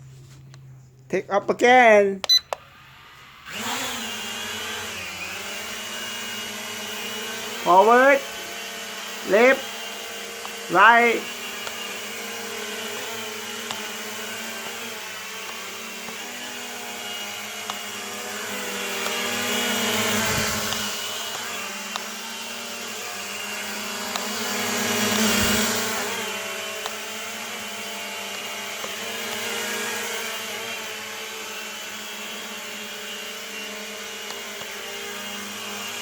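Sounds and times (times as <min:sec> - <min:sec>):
toy drone motors whining: 0:02.5 - 0:36.0.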